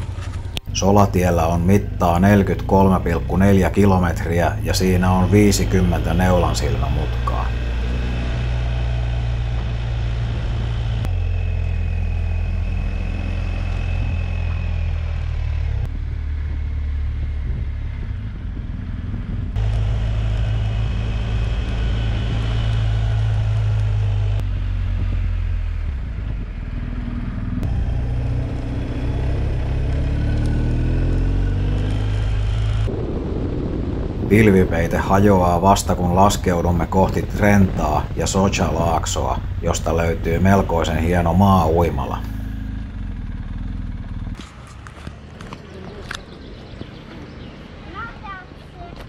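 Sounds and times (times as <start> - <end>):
motorcycle engine running: 0.0 - 34.2, 36.1 - 48.2.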